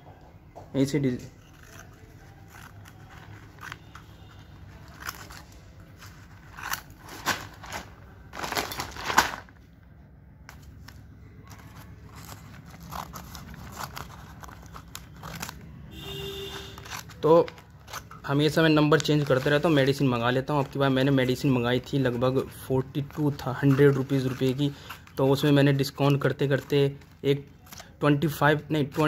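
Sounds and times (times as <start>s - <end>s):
packaging crinkling and tearing: 1.4s - 9.7s, 10.5s - 15.8s, 16.5s - 29.0s.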